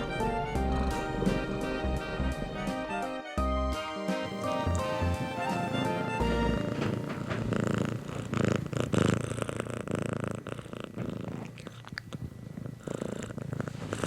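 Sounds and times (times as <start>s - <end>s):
cat purring: 0.0s - 3.0s, 4.3s - 14.0s.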